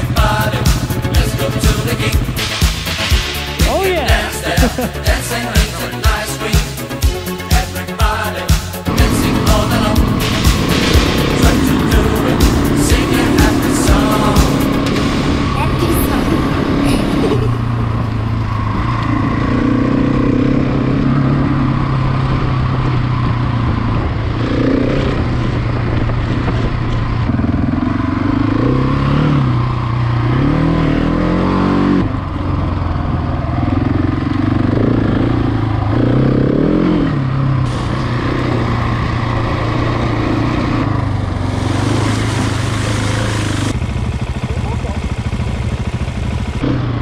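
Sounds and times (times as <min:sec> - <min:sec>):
motorcycle engine revving: 0:00.0 - 0:47.0
wind and road noise: 0:08.8 - 0:47.0.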